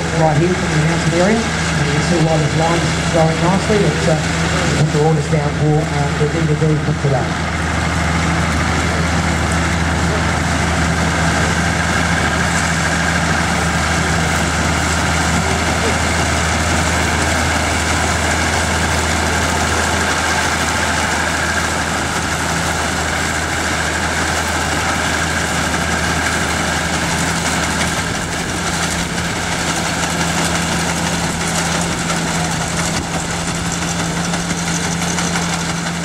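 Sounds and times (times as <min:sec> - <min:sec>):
harvester machinery running: 0:00.0 - 0:36.0
tractor engine running: 0:00.0 - 0:36.0.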